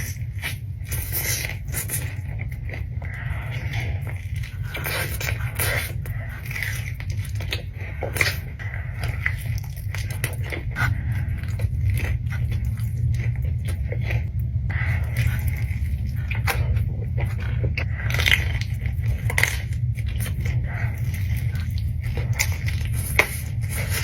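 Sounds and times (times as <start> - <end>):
food crunching: 0.0 - 24.0
low hum: 0.0 - 24.0.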